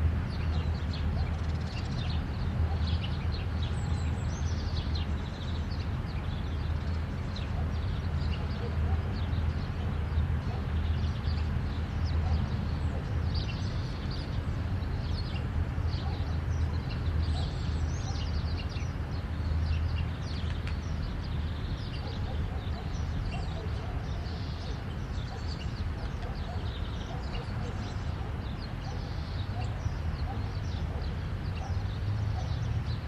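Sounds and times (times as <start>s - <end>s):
highway traffic rumble: 0.0s - 33.0s
small birds chirping: 0.3s - 33.0s.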